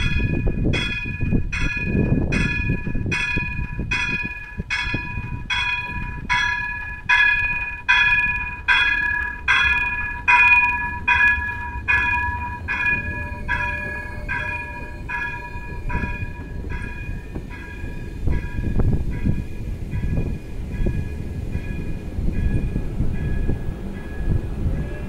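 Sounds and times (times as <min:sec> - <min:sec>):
low rumble of moving train: 0:00.0 - 0:25.0
train warning bell ringing: 0:00.0 - 0:25.0.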